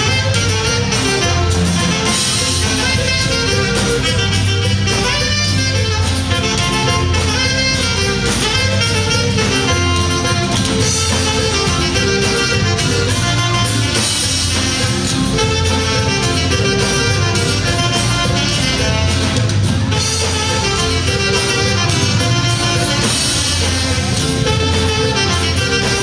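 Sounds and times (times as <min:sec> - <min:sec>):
band playing dance music: 0:00.0 - 0:26.0.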